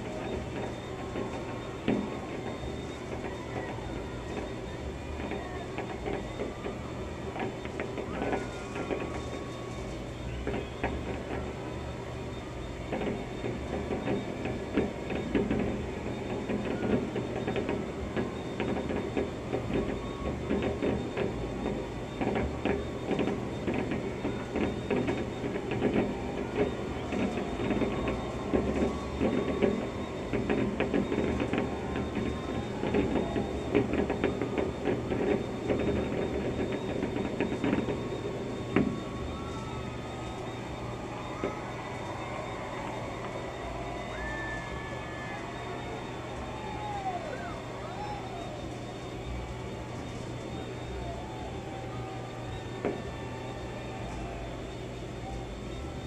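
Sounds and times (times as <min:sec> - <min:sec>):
muffled fireworks popping and crackling: 0:00.0 - 0:56.0
steady hum: 0:00.0 - 0:56.0.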